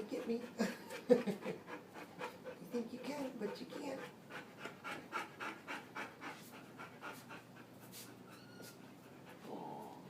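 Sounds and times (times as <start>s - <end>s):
dog panting: 0.0s - 9.6s.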